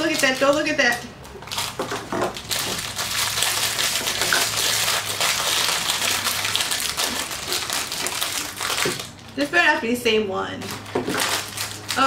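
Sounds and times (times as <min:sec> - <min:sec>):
aluminium foil crinkling: 0:00.0 - 0:09.6, 0:10.6 - 0:12.0.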